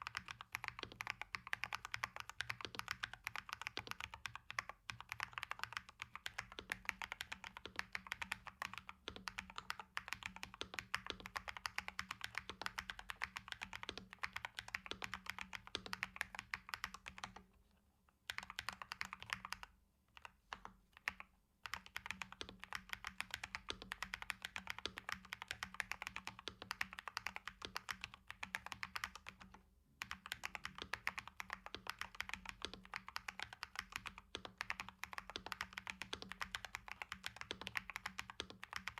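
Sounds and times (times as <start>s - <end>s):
mechanical keyboard typing: 0.0s - 17.4s, 18.3s - 38.9s.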